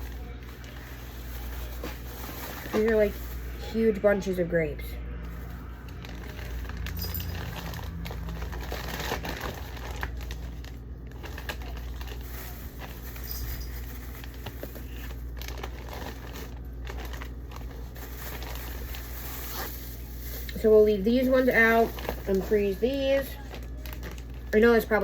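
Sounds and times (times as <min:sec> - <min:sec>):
plastic bags crinkling: 0:00.0 - 0:04.0, 0:05.3 - 0:25.0.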